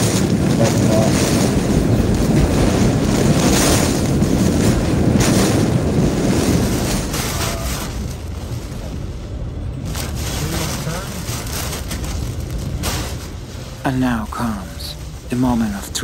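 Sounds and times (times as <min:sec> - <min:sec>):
strong wind on a car: 0:00.0 - 0:15.3
driving rain beating on a car: 0:00.0 - 0:16.0.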